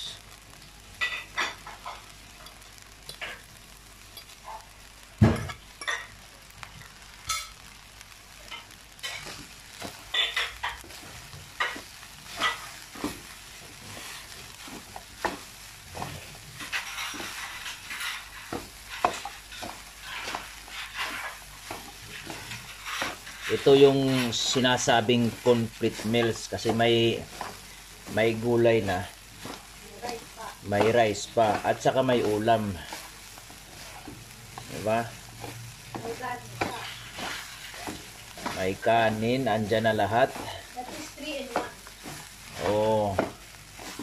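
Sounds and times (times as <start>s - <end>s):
frying sizzle: 0.0s - 44.0s
spatula scraping a wok: 8.5s - 44.0s.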